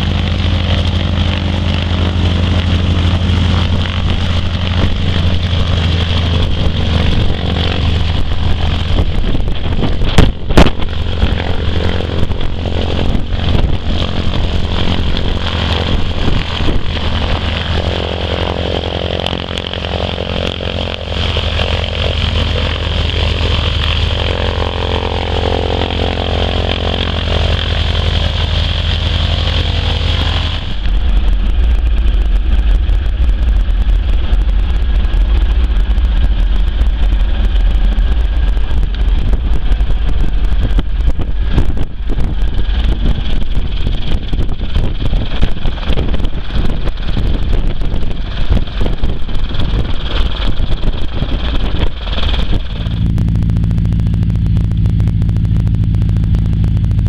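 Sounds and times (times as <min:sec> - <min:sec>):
radial aircraft engine idling: 0:00.0 - 0:57.0.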